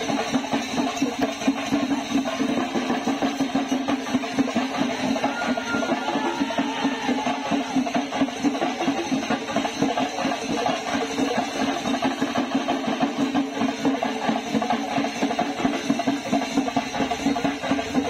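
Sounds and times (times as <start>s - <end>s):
fast drum rolls: 0.0s - 18.0s.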